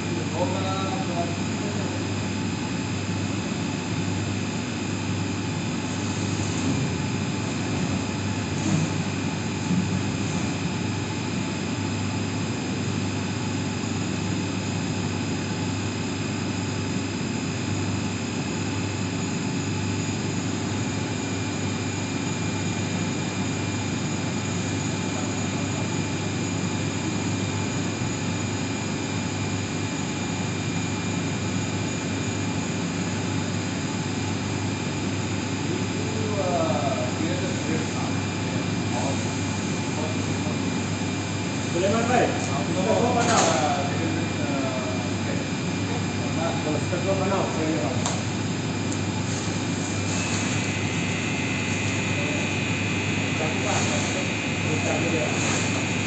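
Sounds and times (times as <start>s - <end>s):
machinery hum and whine: 0.0s - 56.0s.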